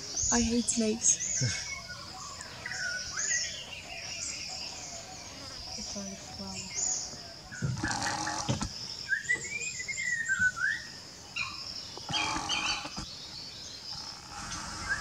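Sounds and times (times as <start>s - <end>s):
birds warbling and calling: 0.0s - 15.0s.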